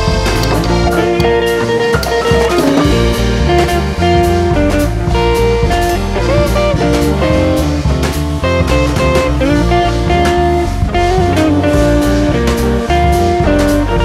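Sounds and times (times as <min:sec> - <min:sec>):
background music with steady beat: 0:00.0 - 0:14.0.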